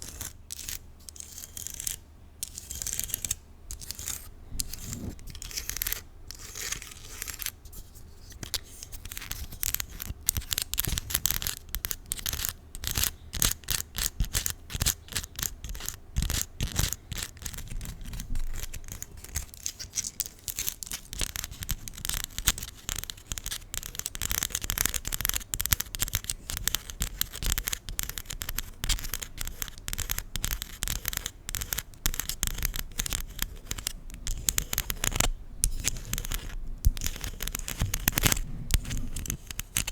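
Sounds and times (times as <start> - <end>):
nails scratching and tapping plastic: 0.0 - 39.9.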